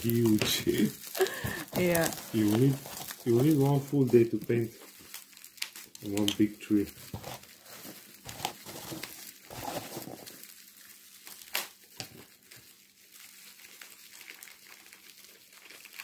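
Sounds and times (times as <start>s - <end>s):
plastic packaging crinkling: 0.0s - 16.0s
sharp crackles: 0.0s - 16.0s.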